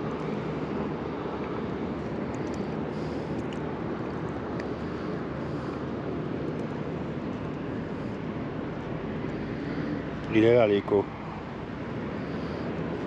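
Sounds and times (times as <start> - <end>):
motorboat engine rumble: 0.0 - 13.0.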